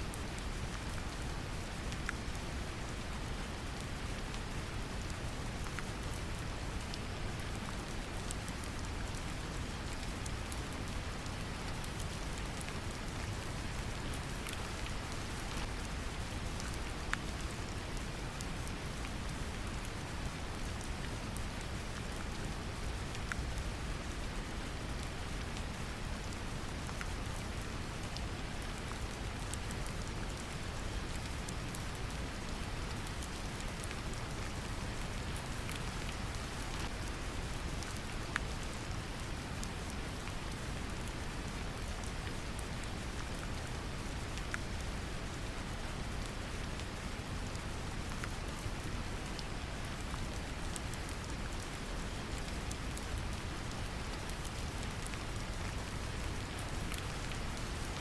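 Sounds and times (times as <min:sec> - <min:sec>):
brown noise hiss: 0:00.0 - 0:58.0
gentle rain patter: 0:00.0 - 0:58.0.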